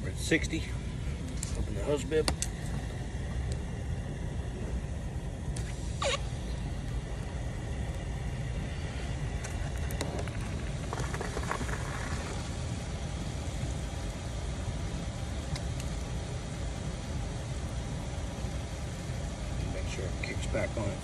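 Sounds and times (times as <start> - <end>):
low rumble: 0.0 - 20.2.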